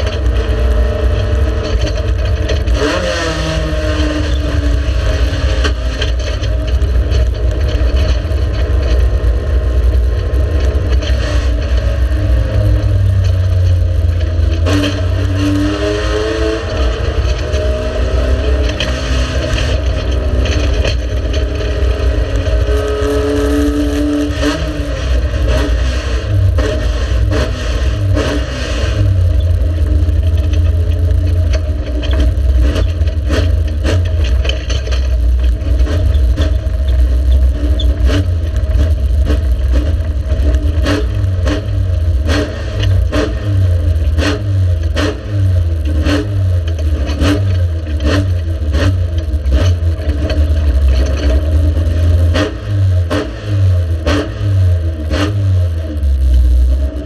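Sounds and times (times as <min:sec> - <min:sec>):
racing car engine under load: 0:00.0 - 0:57.0.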